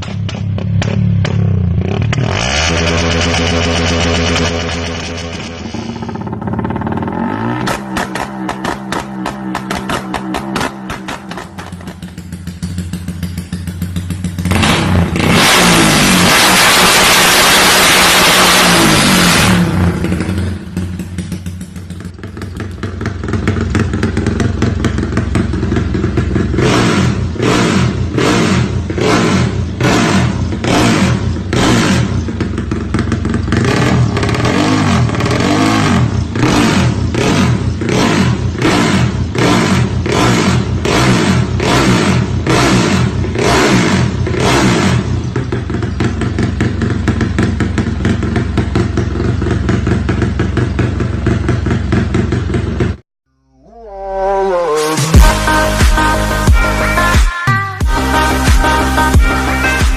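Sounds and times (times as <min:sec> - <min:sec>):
motorcycle engine revving: 0:00.0 - 0:53.0, 0:54.5 - 0:59.9.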